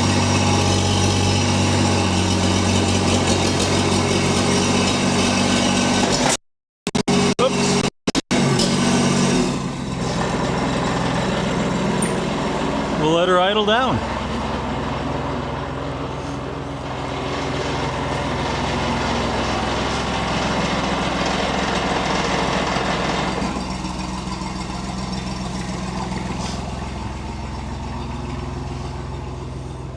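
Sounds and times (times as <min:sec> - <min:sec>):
engine misfiring: 0:00.0 - 0:29.9.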